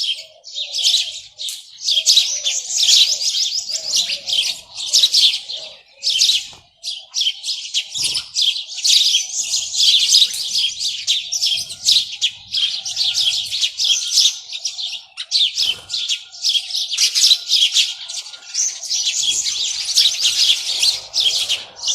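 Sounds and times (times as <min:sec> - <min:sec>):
flock of small birds chirping: 0:00.0 - 0:21.9.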